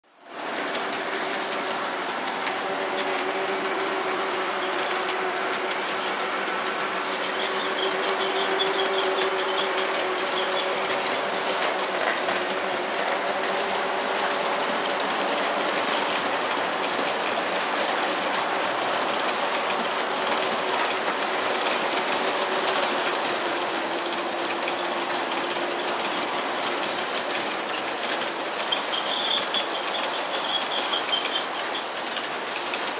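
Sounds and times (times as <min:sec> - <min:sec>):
train wheels rattling on rails: 0:00.2 - 0:32.9.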